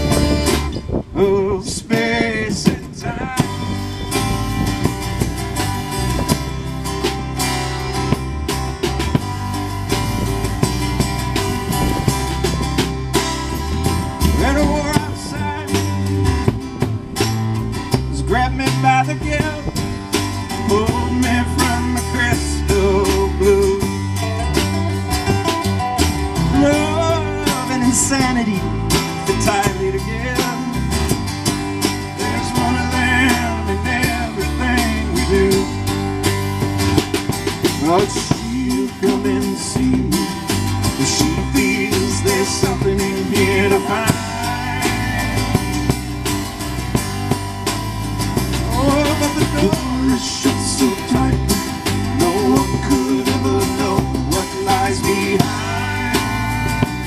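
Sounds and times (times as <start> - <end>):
acoustic band playing live: 0.0 - 57.0.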